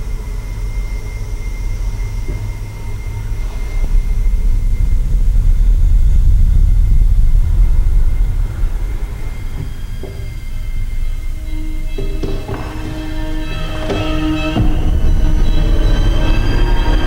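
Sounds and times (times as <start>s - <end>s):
deep low rumble: 0.0s - 17.0s.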